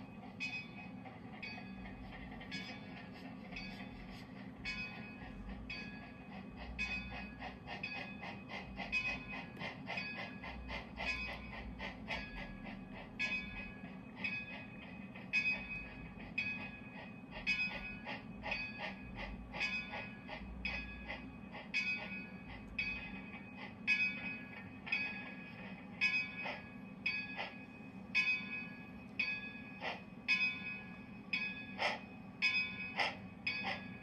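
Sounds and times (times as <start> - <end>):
locomotive bell ringing: 0.0 - 34.0
steam exhaust chuffs: 0.0 - 34.0.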